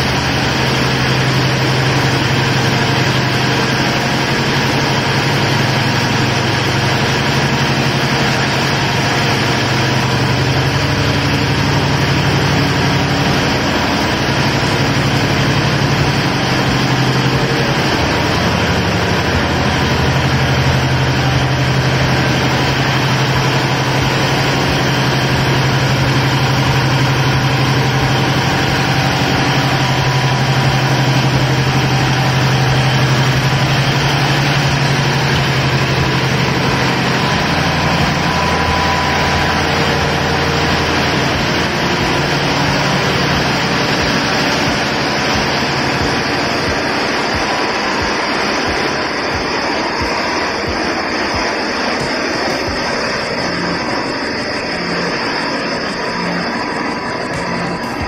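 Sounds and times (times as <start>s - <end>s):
marine diesel engines droning: 0.0s - 58.0s.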